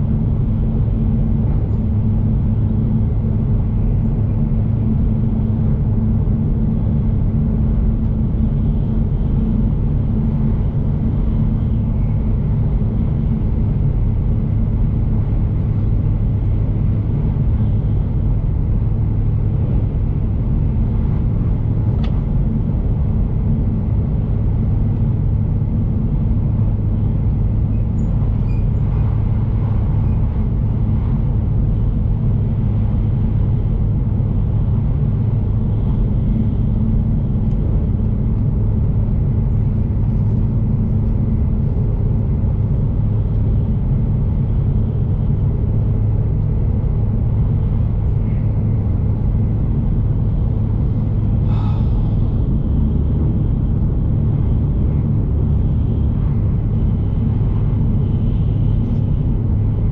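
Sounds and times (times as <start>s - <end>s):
train rumbling at speed: 0.0s - 59.9s.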